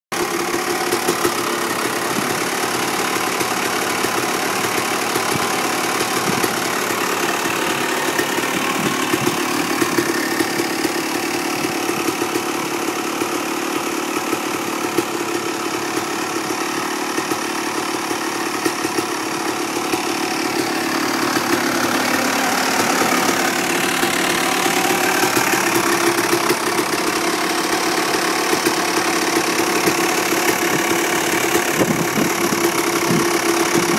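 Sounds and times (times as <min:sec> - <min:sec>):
two-stroke engine running: 0:00.1 - 0:33.9.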